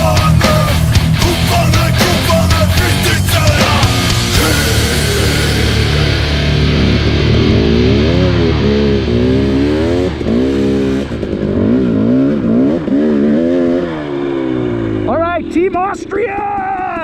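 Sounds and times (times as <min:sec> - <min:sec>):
heavy rock music: 0:00.0 - 0:14.0
dirt bike engine revving: 0:00.0 - 0:17.0.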